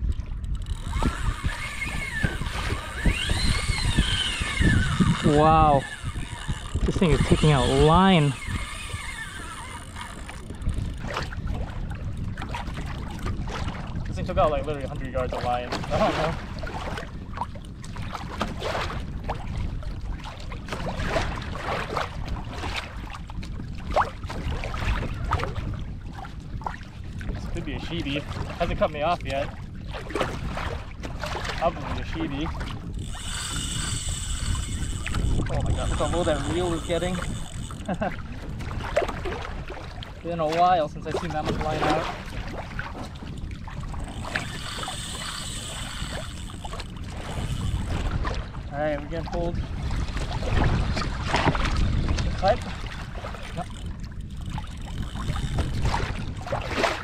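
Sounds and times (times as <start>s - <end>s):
water splashing against kayak hull: 0.0s - 57.0s
wind rumble on microphone: 0.0s - 57.0s.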